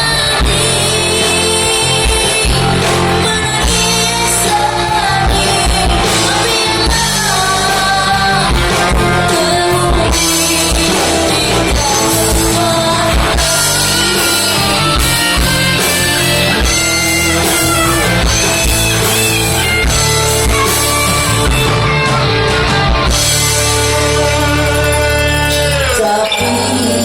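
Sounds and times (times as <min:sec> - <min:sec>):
pop-rock band playing: 0:00.0 - 0:27.0.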